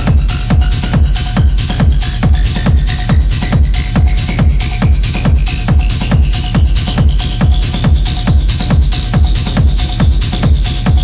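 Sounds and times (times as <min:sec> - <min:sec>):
hi-hats: 0:00.0 - 0:11.0
techno kick drum: 0:00.0 - 0:11.0.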